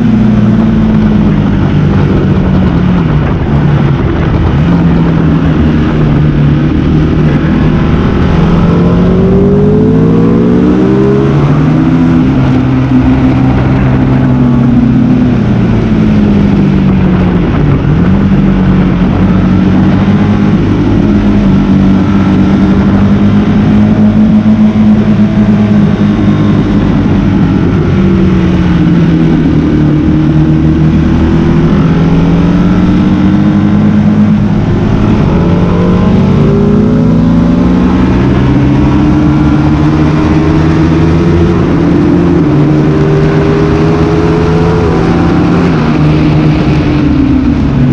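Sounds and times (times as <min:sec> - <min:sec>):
constant rush of noise: 0:00.0 - 0:47.9
motorcycle engine accelerating: 0:00.0 - 0:47.9.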